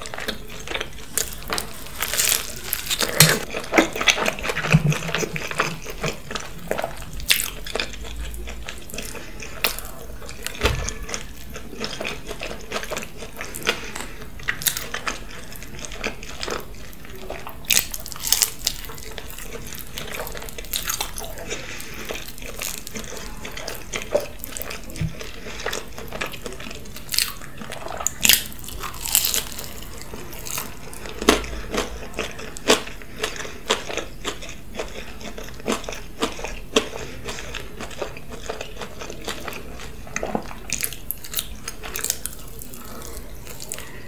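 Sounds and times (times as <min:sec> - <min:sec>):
chewing fries with crunches: 0:00.0 - 0:44.0.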